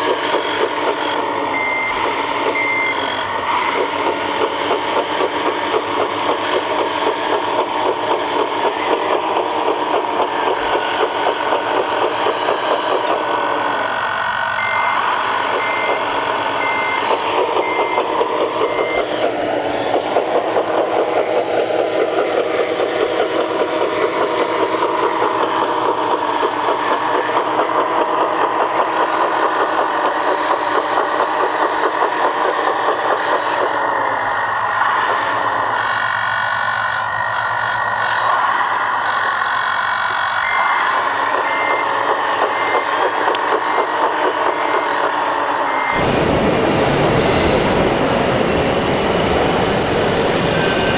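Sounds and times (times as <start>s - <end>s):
reversing beeps: 0.0s - 32.1s, 40.2s - 50.9s
simulated diesel engine sound: 0.0s - 50.9s.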